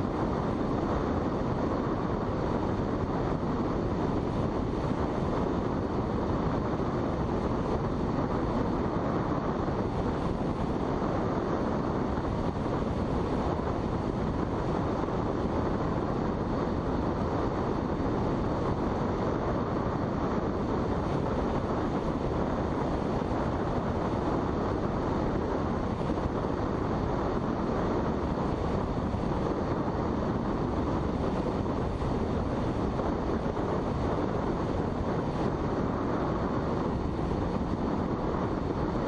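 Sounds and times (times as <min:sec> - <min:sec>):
air rushing past glider: 0:00.0 - 0:39.0.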